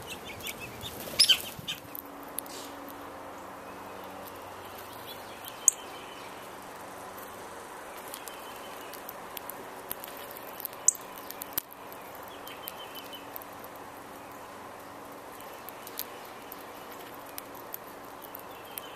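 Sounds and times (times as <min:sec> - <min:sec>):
wild birds singing: 0:00.0 - 0:18.9.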